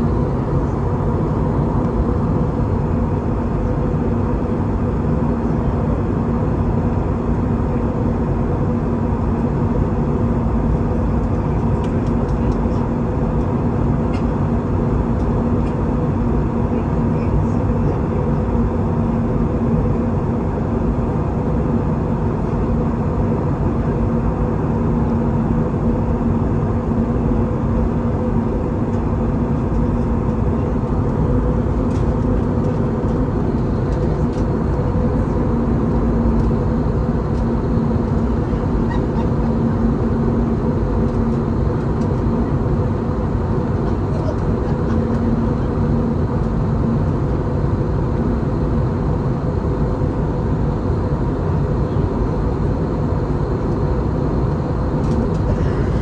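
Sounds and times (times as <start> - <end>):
airplane cabin rumble: 0.0 - 56.0
steady low hum: 0.0 - 56.0.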